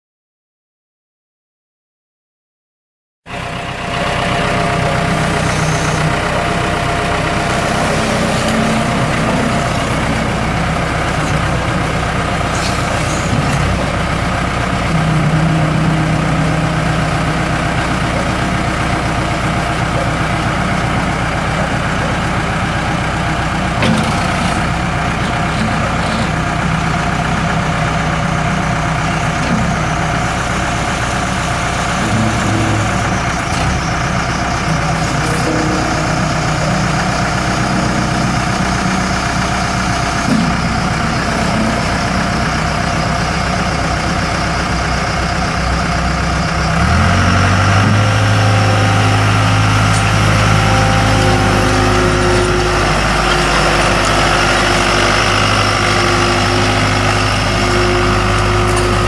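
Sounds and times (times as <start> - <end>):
diesel engine running: 3.3 - 59.0.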